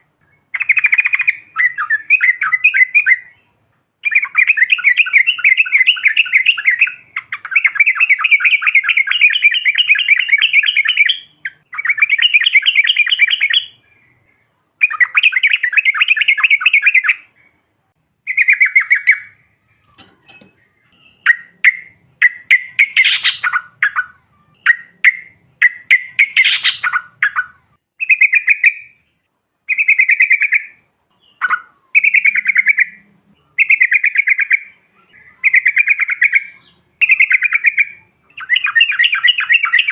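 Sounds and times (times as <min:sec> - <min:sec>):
bird singing trilled song: 0:00.0 - 0:39.9.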